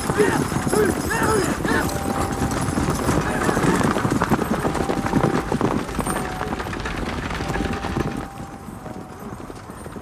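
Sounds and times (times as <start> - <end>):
horse hooves clip-clopping: 0.0 - 10.0.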